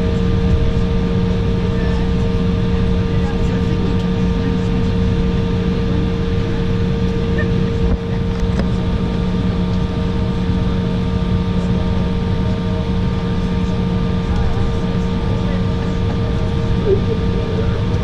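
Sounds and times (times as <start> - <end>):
aircraft cabin hum: 0.0 - 18.0.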